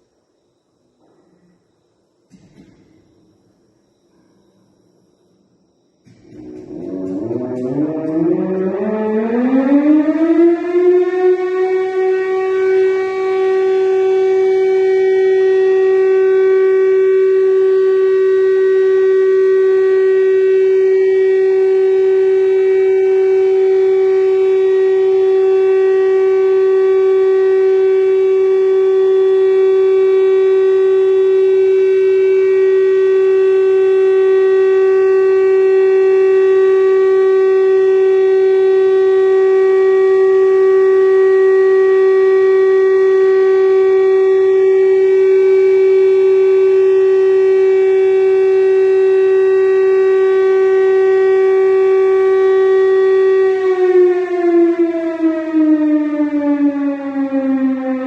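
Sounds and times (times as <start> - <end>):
fire station siren steady tone: 0.0 - 58.0.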